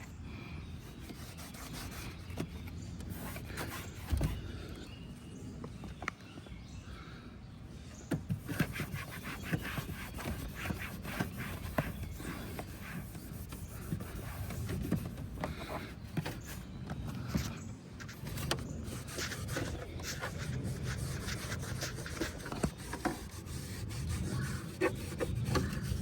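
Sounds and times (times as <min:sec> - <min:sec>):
rubbing and scraping: 0:00.8 - 0:04.6, 0:08.2 - 0:26.0.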